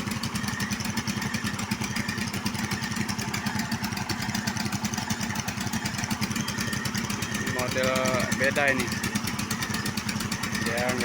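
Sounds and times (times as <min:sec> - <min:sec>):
drilling rig engine pulsing: 0:00.0 - 0:11.0.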